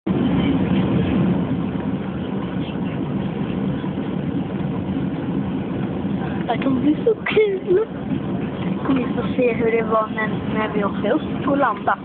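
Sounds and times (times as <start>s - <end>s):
airliner cabin hum: 0.1s - 12.0s.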